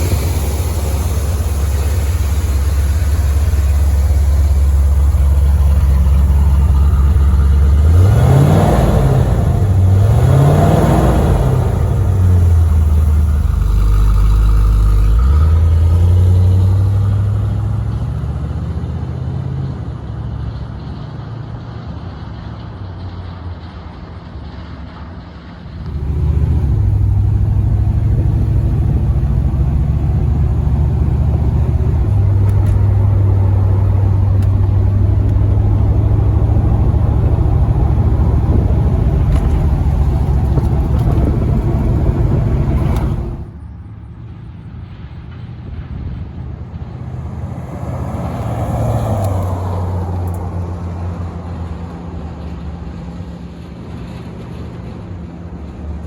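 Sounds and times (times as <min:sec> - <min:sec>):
car engine running loud: 0:00.0 - 0:56.0.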